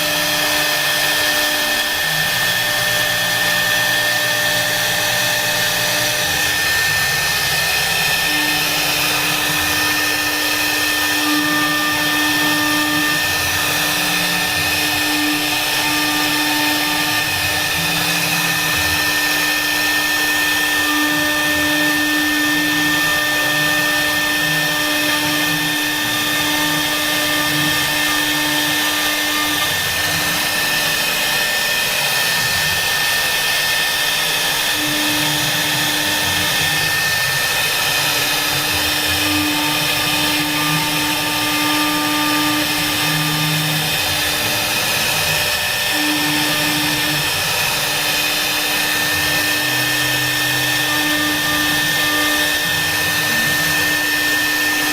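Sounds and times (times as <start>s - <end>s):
router spindle whine: 0.0s - 54.9s.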